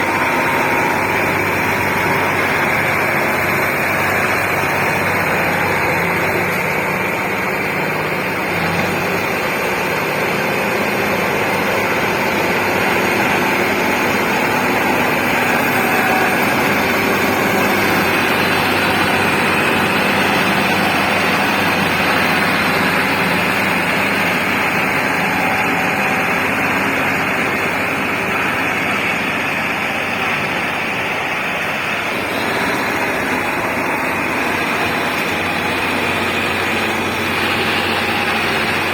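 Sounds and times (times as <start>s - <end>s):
heavy diesel engines running: 0.0s - 38.9s.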